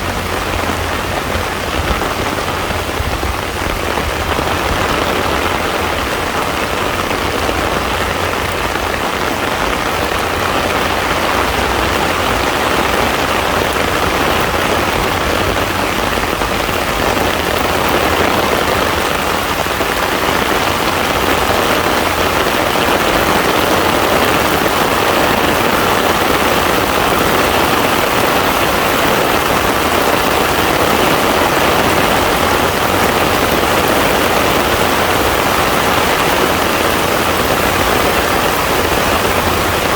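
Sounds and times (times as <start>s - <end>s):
heavy rain on a pond: 0.0s - 39.9s.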